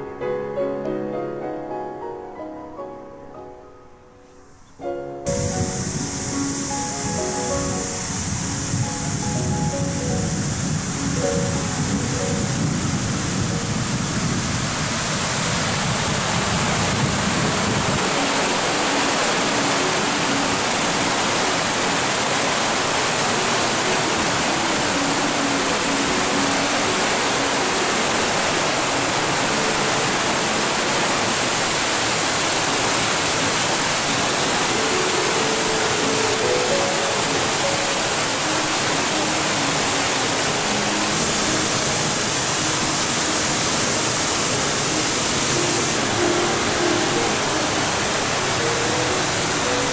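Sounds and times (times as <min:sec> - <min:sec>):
waterfall rushing: 0:05.3 - 0:49.9.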